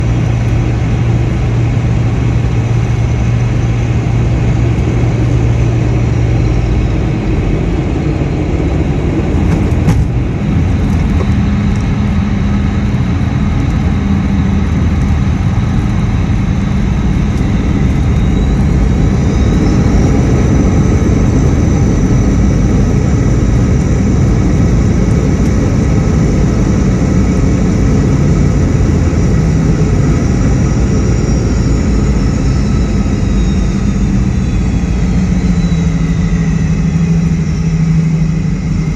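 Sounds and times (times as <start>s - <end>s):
jet engine and airflow noise: 0.0s - 38.9s
jet engine whine rising: 0.0s - 38.9s.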